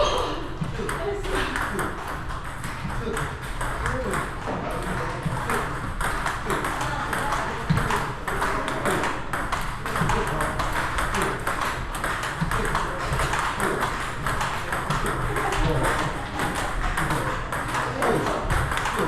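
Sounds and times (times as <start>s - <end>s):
table tennis balls being struck: 0.0s - 19.0s.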